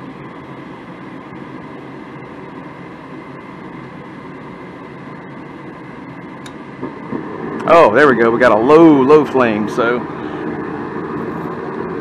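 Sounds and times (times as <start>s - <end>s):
furnace inducer motor humming: 0.0s - 12.0s.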